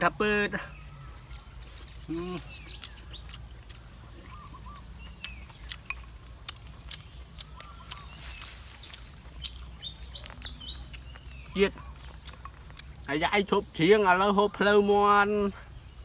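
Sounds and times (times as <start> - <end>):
small birds chirping: 0.0 - 16.0
chewing and crunching food: 0.1 - 16.0.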